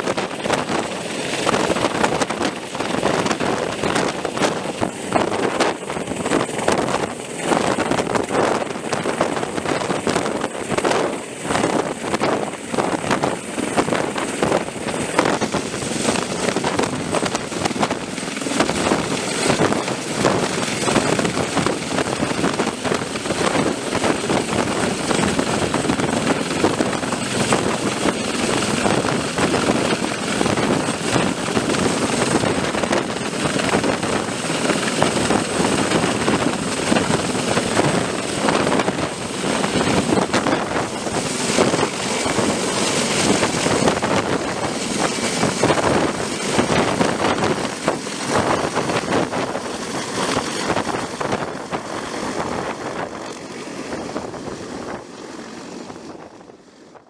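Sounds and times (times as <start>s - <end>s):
helicopter rotor noise: 0.0s - 57.0s
wind blowing on microphone: 0.0s - 57.0s.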